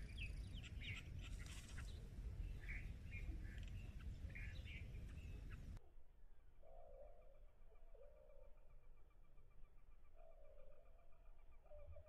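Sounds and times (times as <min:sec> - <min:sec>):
small songbird chirping: 0:00.0 - 0:05.9, 0:06.6 - 0:12.0
low steady rumble: 0:00.0 - 0:12.0.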